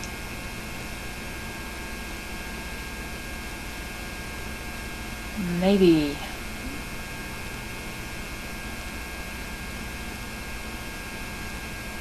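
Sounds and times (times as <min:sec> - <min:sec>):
electrical hum and tape hiss: 0:00.0 - 0:12.0.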